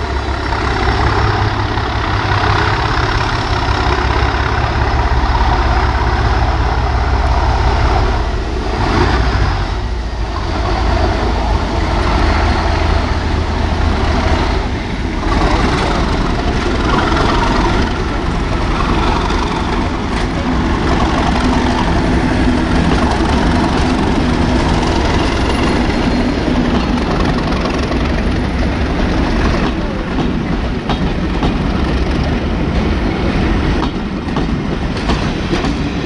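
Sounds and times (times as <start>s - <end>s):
diesel locomotive engine running: 0.0s - 36.0s
train wheels clicking over rail joints: 0.0s - 36.0s.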